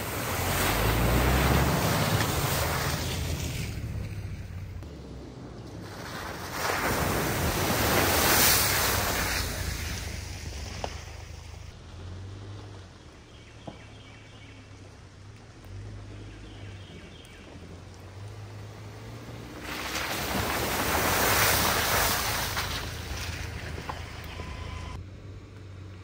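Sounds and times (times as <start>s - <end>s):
vehicle engine rumble: 0.0s - 26.0s.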